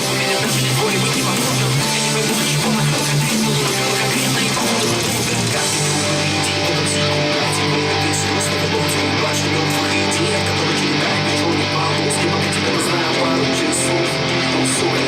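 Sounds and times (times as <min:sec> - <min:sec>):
instrumental guitar music over loudspeakers: 0:00.0 - 0:15.0.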